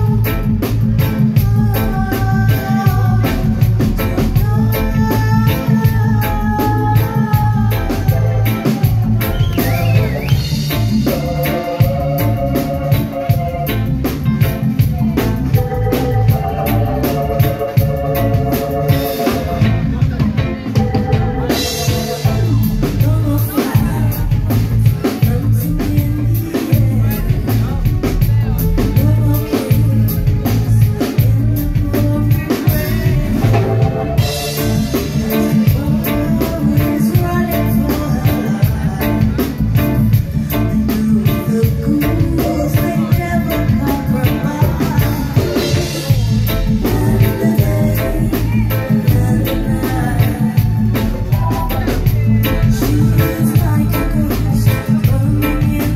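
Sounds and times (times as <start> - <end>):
woman singing into a microphone: 0.0 - 13.7, 14.7 - 55.9
reggae band playing: 0.0 - 55.9.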